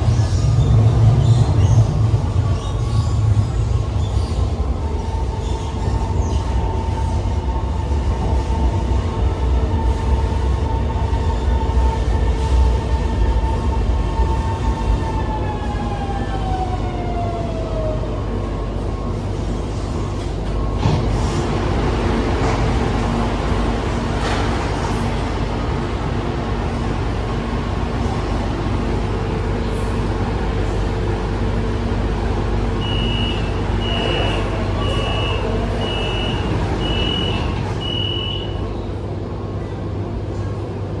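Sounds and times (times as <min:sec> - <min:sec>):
metro train rumbling: 0:00.0 - 0:41.0.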